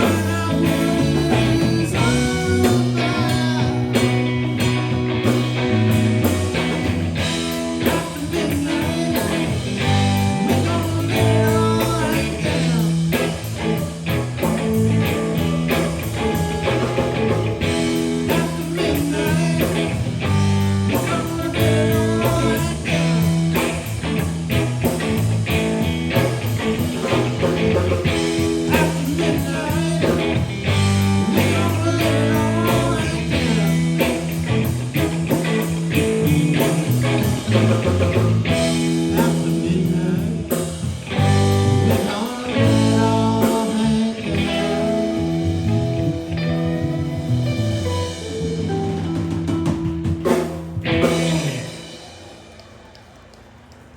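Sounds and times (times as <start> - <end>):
live blues-rock band: 0.0 - 52.6
electric guitar: 0.0 - 53.4.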